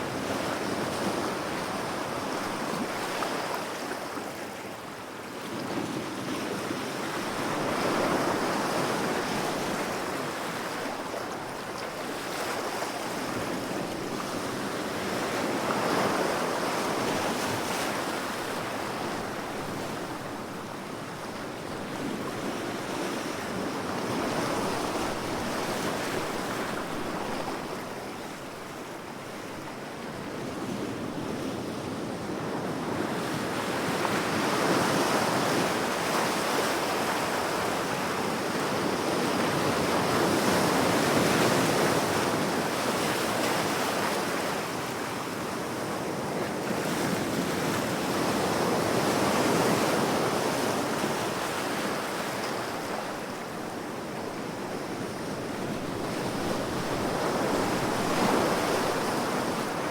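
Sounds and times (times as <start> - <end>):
ocean waves washing ashore: 5.7 - 59.9.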